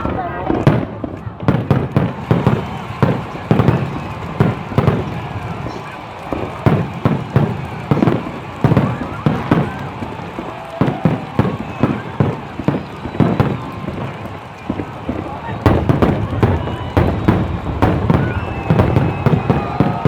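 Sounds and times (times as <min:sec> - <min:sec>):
fireworks bangs echoing: 0:00.0 - 0:20.0.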